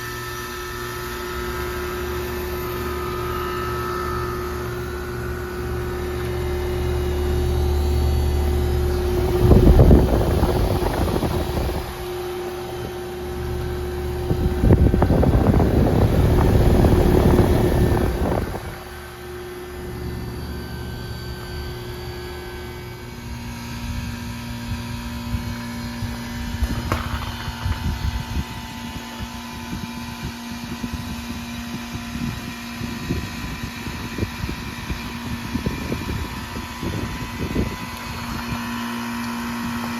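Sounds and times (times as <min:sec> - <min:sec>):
heat pump humming: 0:00.0 - 0:39.9.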